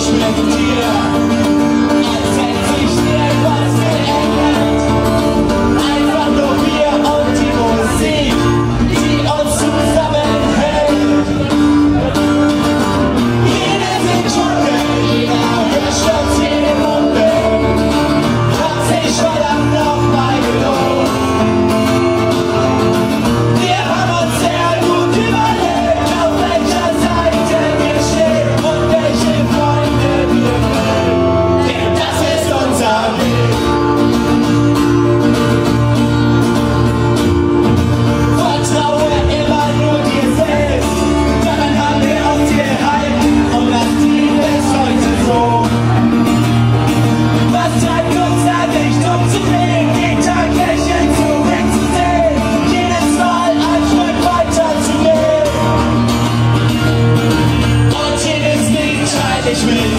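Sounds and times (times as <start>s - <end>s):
person singing: 0.0s - 34.6s, 38.2s - 56.1s, 57.6s - 59.9s
electric guitar: 0.0s - 59.9s.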